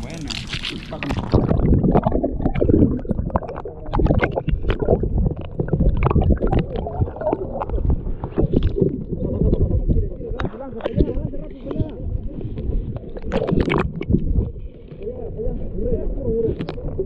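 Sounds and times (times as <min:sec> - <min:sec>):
underwater rumble and gurgling: 0:00.0 - 0:17.0.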